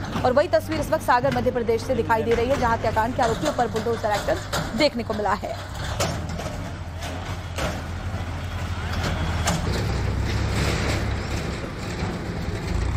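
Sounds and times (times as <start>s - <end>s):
diesel engine rumbling: 0.0s - 12.9s.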